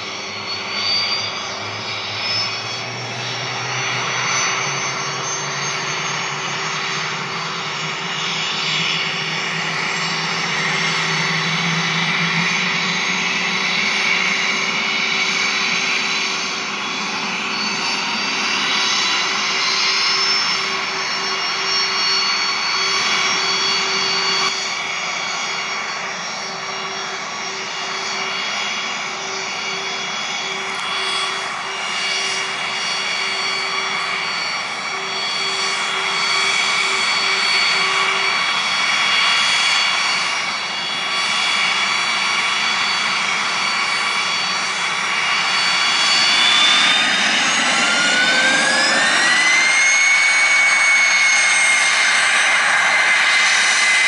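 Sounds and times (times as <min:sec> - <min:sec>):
jet engine whine: 0:00.0 - 0:54.0.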